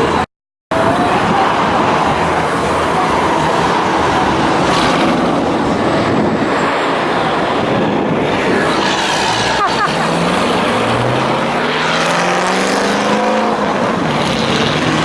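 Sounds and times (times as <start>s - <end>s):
car engine driving off: 0.0s - 15.0s.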